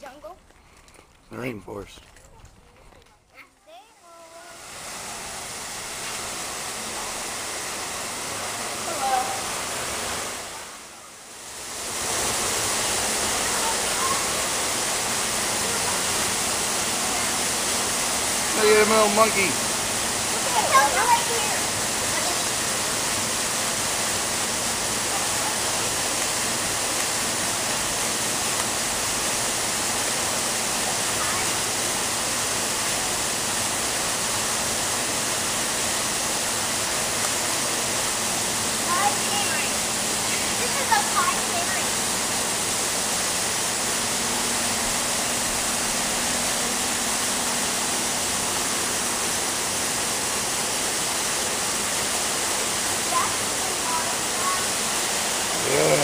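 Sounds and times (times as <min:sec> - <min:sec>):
falling water rushing: 0:03.7 - 0:56.0.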